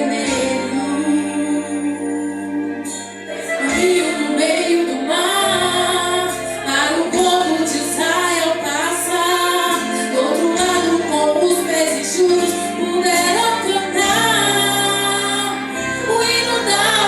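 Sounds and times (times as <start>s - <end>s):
instrumental accompaniment: 0.0s - 17.0s
woman singing worship song: 0.0s - 17.0s.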